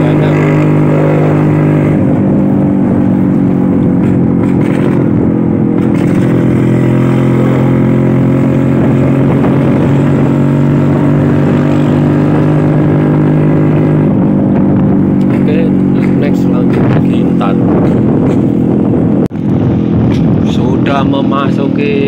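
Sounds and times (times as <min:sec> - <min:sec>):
scooter engine running: 0:00.0 - 0:18.8.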